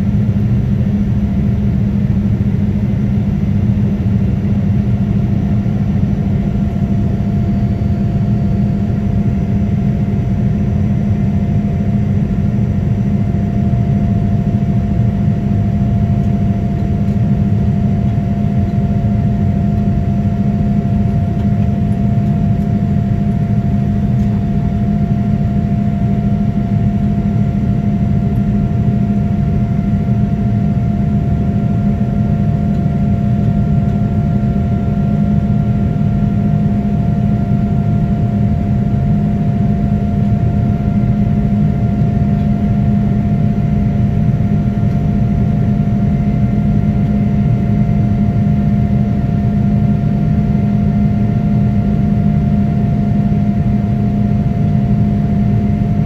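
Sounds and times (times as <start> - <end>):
higher steady engine tone: 0.0 - 56.0
jet engines rushing in cabin: 0.0 - 56.0.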